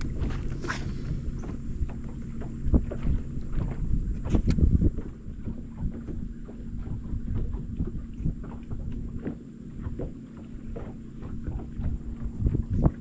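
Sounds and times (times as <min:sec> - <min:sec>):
steady low hum: 0:00.0 - 0:13.0
water slapping against boat hull: 0:00.0 - 0:13.0
wind buffeting microphone: 0:00.0 - 0:13.0.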